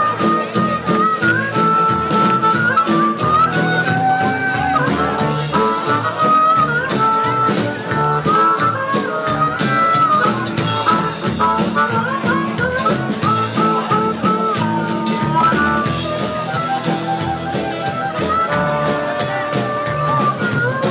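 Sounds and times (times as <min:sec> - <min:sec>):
drum kit beat: 0:00.0 - 0:20.9
electric guitar: 0:00.0 - 0:20.9
harmonica wailing: 0:00.0 - 0:20.9
upright bass: 0:00.0 - 0:20.9.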